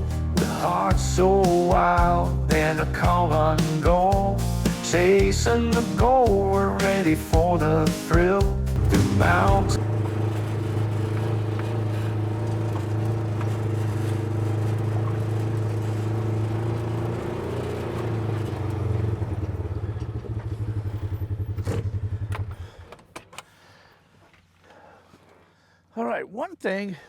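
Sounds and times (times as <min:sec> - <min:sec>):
buggy engine running: 0:00.0 - 0:23.3.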